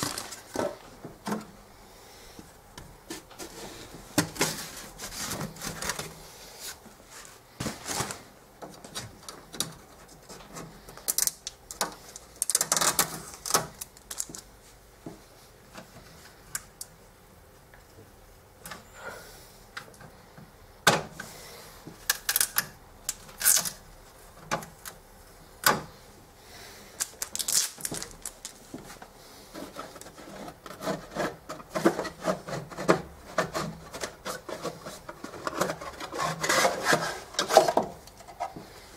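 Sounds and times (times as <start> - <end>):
hands handling plastic parts: 0.0 - 1.5, 2.8 - 17.0, 21.1 - 25.0, 27.0 - 38.8.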